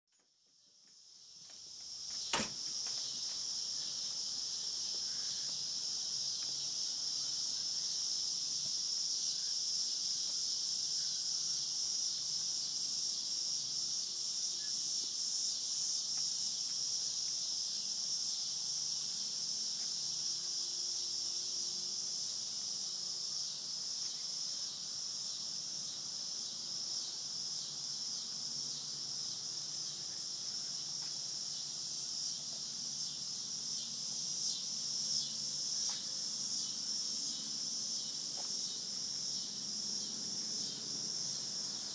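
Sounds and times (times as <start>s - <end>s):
insect chorus shrilling: 1.1s - 41.9s.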